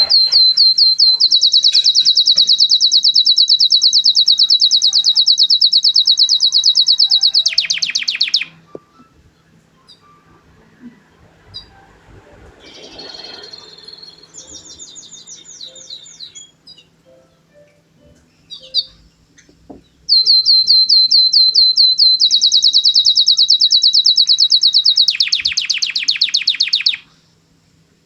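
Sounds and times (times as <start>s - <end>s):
canary singing: 0.0s - 27.2s.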